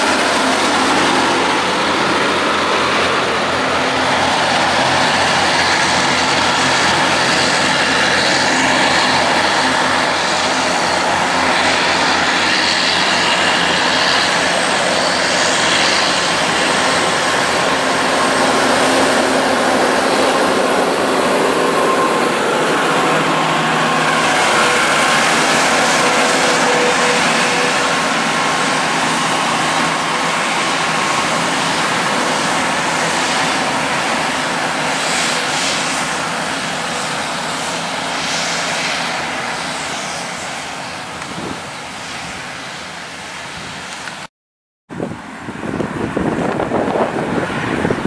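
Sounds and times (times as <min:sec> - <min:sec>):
truck passing with tyre noise: 0:00.0 - 0:41.2
wind on microphone: 0:00.0 - 0:42.2, 0:44.9 - 0:48.0
diesel trucks droning: 0:00.0 - 0:43.2.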